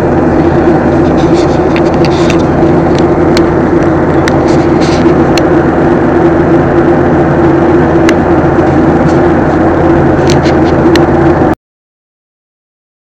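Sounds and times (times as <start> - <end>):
airliner cabin engine rush: 0.0 - 11.6
constant mid-pitched hum: 0.0 - 11.6.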